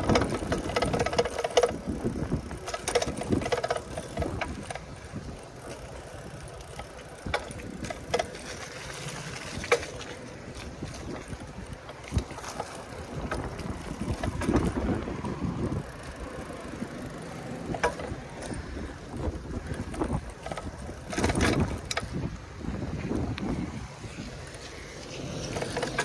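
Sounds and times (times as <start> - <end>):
wind on microphone: 0.0 - 5.5, 6.1 - 17.0, 17.6 - 26.0
bicycle tyres rolling on wet pavement: 0.0 - 26.0
bike clicks and knocks: 0.0 - 26.0.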